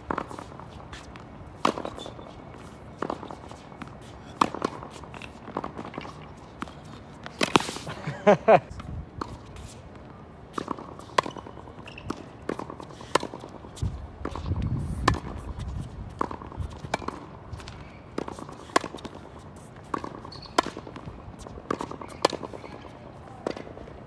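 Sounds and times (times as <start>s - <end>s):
racquet hitting tennis ball: 0.0s - 7.9s, 10.5s - 13.6s, 14.2s - 23.9s.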